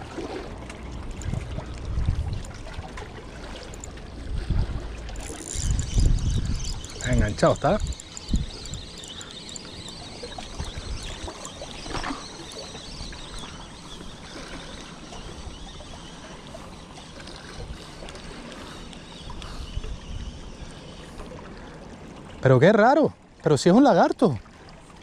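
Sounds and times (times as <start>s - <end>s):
sea water sloshing among rocks: 0.0s - 22.4s.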